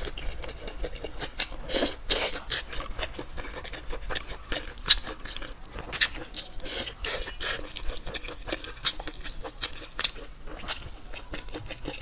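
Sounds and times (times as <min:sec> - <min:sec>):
person chewing and smacking lips: 0:00.0 - 0:12.0.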